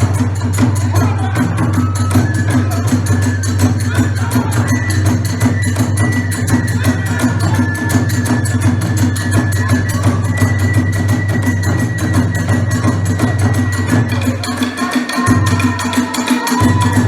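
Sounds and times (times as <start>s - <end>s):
drums and hand cymbals: 0.0s - 17.0s.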